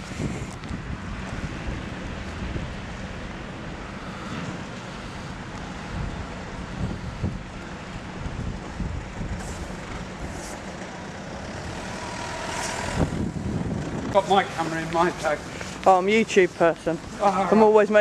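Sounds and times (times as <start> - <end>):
wind on microphone: 0.0 - 10.7, 11.4 - 15.6
road traffic rumble: 0.0 - 18.0.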